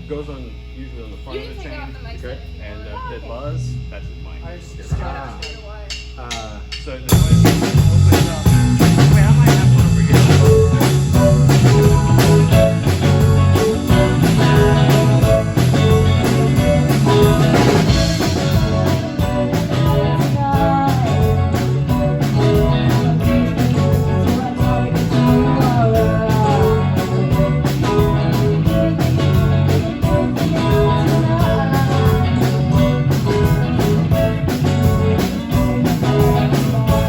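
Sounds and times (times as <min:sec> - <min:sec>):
bass guitar: 0:00.0 - 0:37.0
drum kit beat: 0:04.8 - 0:37.0
electric guitar: 0:07.1 - 0:37.0.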